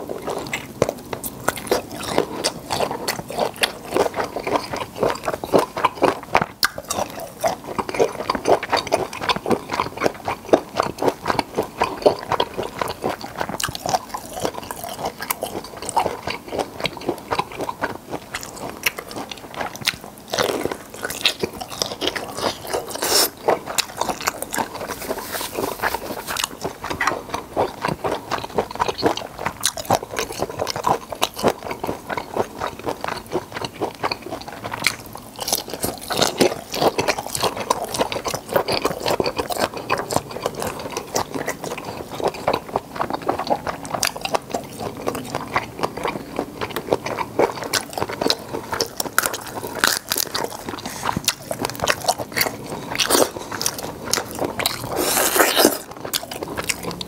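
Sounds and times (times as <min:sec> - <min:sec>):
wet chewing and lip smacking: 0:00.0 - 0:57.0.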